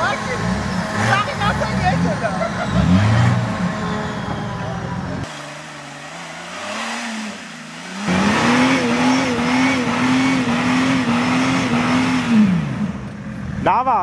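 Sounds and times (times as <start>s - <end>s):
engine revving hard: 0.0s - 13.1s.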